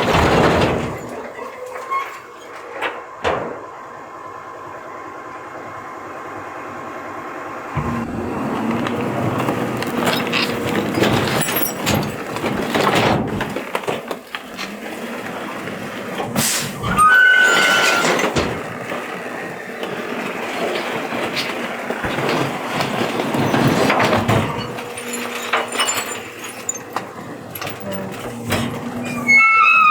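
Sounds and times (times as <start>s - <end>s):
machinery rattles and clanks: 0.0s - 3.4s, 7.8s - 29.9s
garbage truck running: 0.0s - 29.9s.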